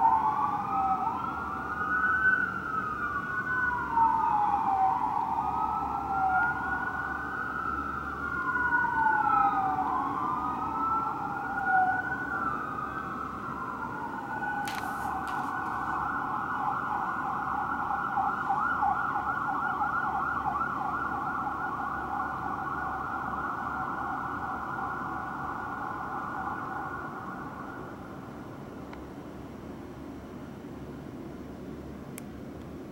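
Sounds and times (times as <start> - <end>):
fire truck sirens: 0.0 - 30.2.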